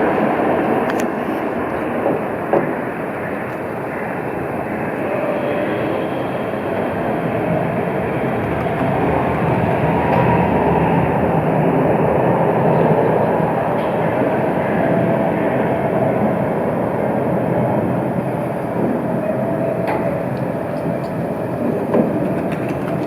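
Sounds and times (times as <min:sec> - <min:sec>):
tram rolling rumble: 0:00.0 - 0:23.0.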